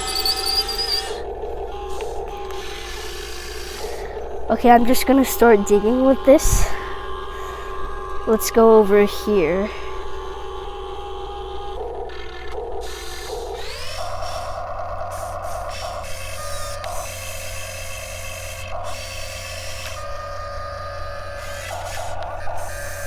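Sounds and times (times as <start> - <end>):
small electric motors whirring: 0.0 - 23.0
toy engine sound effect: 0.0 - 23.0.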